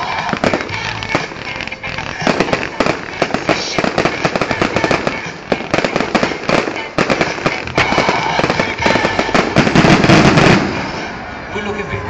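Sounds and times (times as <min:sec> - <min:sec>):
fireworks bangs and crackling pops: 0:00.0 - 0:11.2.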